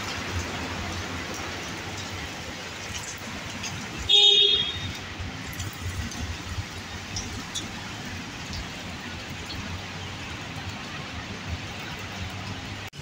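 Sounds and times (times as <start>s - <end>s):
rain falling on street: 0.0s - 13.0s.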